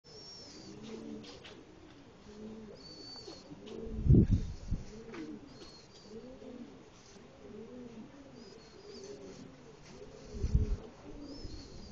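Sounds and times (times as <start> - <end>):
pigeons cooing: 0.1 - 11.9.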